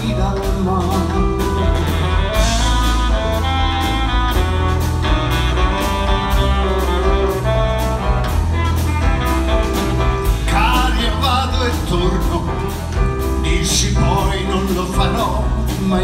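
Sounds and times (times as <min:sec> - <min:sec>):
band playing instrumental music: 0:00.0 - 0:16.0.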